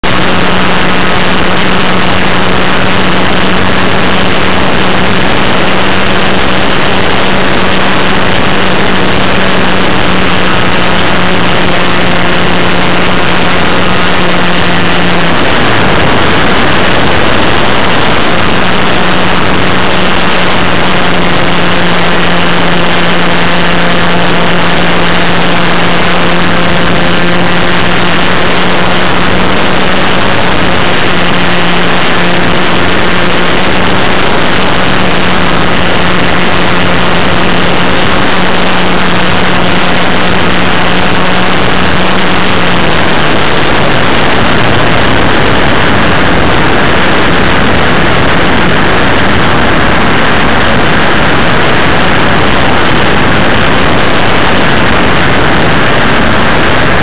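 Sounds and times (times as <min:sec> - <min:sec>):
model plane engine running: 0:00.0 - 0:57.0
propeller and air rush: 0:00.0 - 0:57.0.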